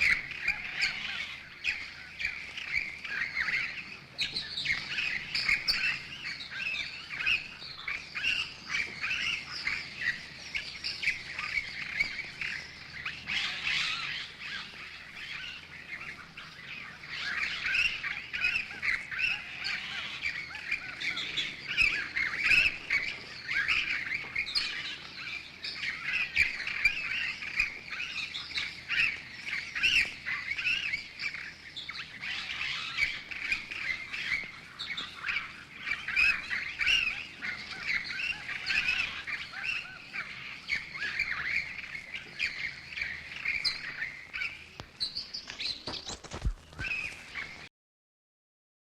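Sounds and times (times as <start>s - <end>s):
flock of birds chirping: 0.0s - 47.7s.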